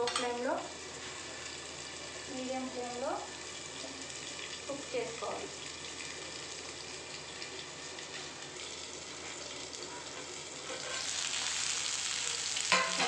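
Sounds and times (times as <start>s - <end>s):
banana slices sizzling in oil: 0.0s - 13.0s.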